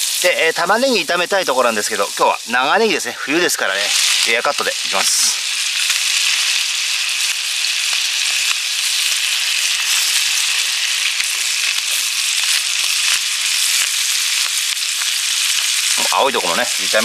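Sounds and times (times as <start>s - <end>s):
butter sizzling in a skillet: 0.0s - 17.0s.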